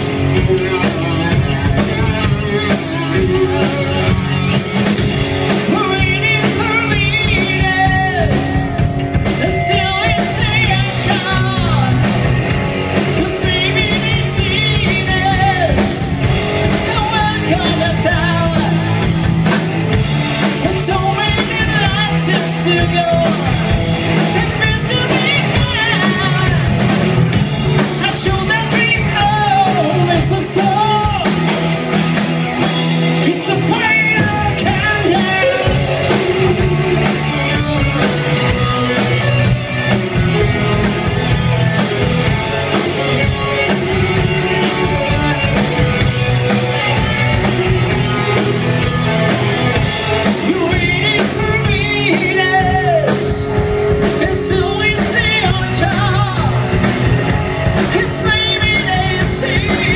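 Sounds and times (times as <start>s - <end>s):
bass guitar: 0.0s - 59.9s
drum kit: 0.0s - 59.9s
electric guitars: 0.0s - 59.9s
person singing: 5.2s - 19.6s, 20.4s - 27.0s, 27.8s - 32.0s, 33.1s - 59.9s.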